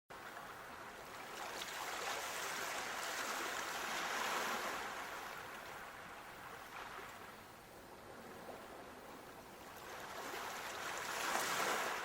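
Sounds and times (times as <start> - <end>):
rushing water: 0.1 - 12.0.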